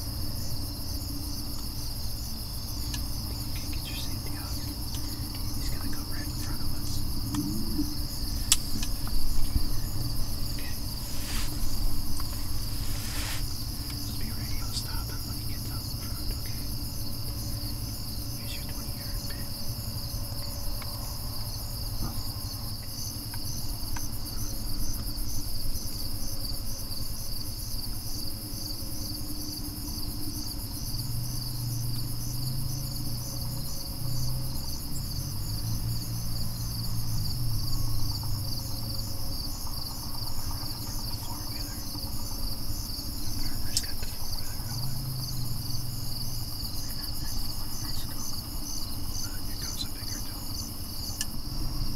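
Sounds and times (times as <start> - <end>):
insects trilling: 0.0 - 51.9
low background rumble: 0.0 - 51.9.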